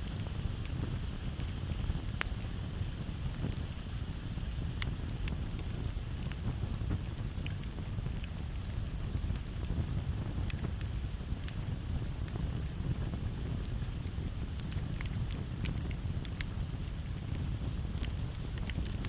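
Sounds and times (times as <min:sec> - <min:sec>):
campfire crackling and popping: 0:00.0 - 0:19.0
crickets chirring: 0:00.0 - 0:19.0
low steady rumble: 0:00.0 - 0:19.0.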